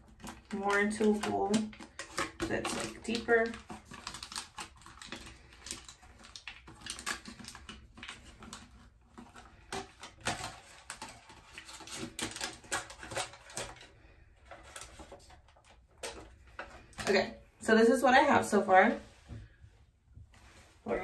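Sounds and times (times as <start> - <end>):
aluminum foil crinkling: 0.0 - 17.2.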